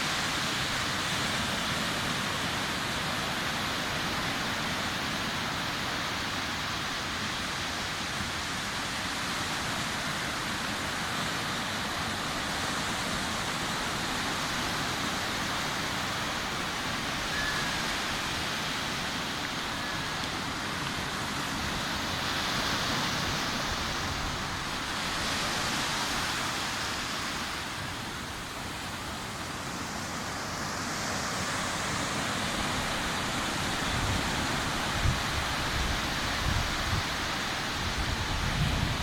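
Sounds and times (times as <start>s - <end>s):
sea surf breaking on beach: 0.0s - 39.0s.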